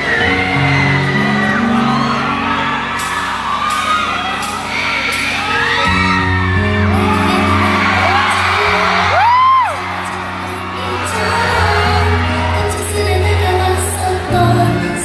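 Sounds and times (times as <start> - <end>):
fans screaming and cheering: 0.0 - 15.0
slow ballad over speakers: 0.0 - 15.0.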